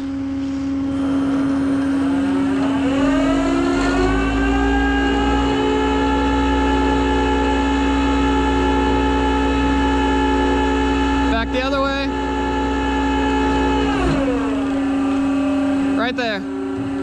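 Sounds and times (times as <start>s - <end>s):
hydraulic winch whine: 0.0s - 17.0s
truck engine low hum: 0.0s - 17.0s.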